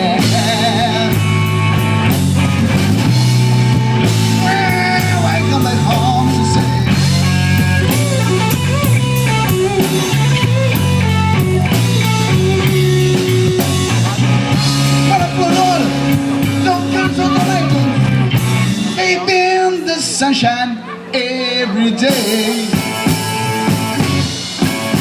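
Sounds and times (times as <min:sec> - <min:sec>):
electric guitar lead with bent notes: 0:00.0 - 0:25.0
live blues band playing: 0:00.0 - 0:25.0.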